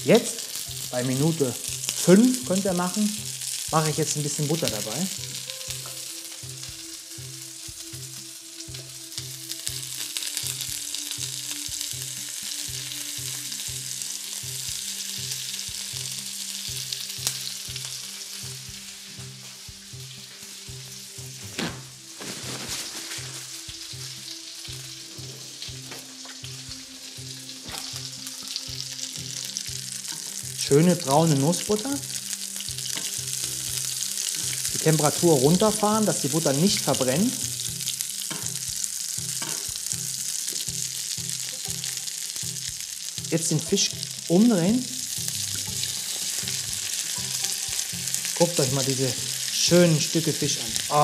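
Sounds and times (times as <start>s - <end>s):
fish fillets sizzling in a pan: 0.0s - 51.0s.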